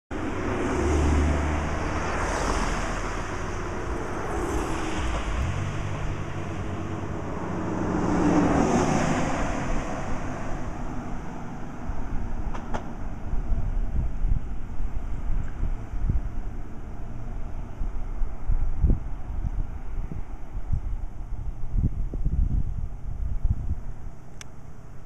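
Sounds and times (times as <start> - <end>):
cars driving by: 0.1 - 21.5
wind rumble on microphone: 0.1 - 25.0.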